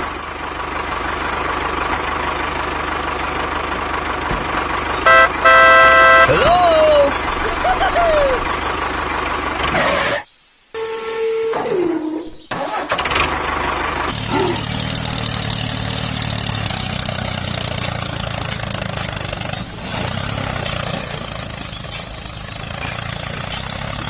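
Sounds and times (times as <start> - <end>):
engine humming: 0.0 - 11.2, 11.8 - 24.0.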